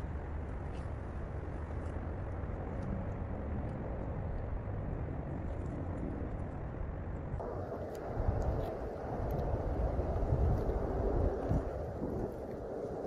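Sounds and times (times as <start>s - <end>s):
low even rumble: 0.0s - 13.0s.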